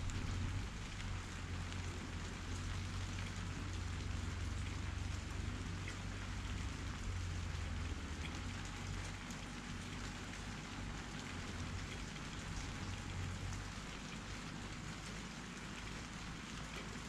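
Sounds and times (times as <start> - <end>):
rain hiss: 0.0 - 17.0
raindrops ticking: 0.0 - 17.0.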